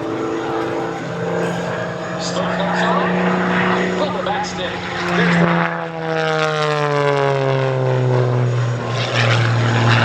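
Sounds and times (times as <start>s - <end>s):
propeller plane passing by: 0.0s - 10.0s.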